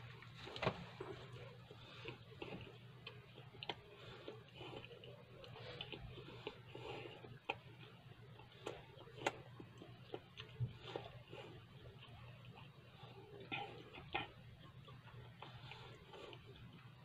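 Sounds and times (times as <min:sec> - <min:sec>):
low steady hum: 0:00.0 - 0:17.0
mouth chewing clicks and smacks: 0:01.0 - 0:16.9.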